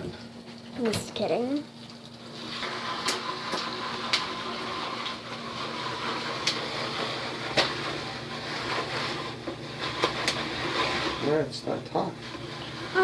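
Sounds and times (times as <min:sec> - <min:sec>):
foil pan sizzling: 0:00.0 - 0:13.0.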